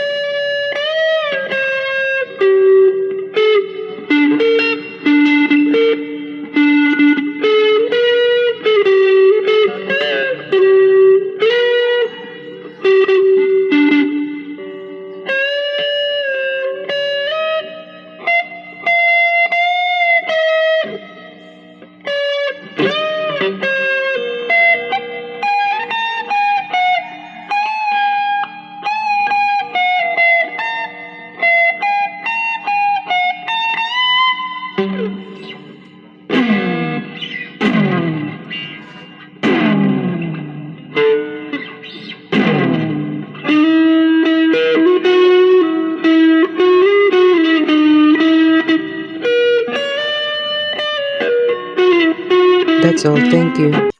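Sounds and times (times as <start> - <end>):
electric guitar melody: 0.0 - 53.9.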